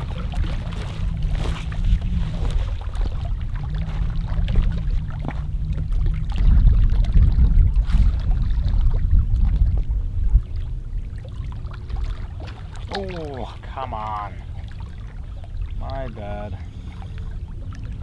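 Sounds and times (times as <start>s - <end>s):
water lapping at rocks: 0.0s - 18.0s
wind buffeting microphone: 0.0s - 18.0s.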